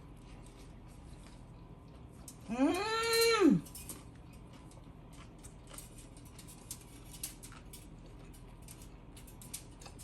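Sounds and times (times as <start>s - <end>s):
person chewing a sandwich: 0.0s - 2.5s, 3.6s - 10.0s.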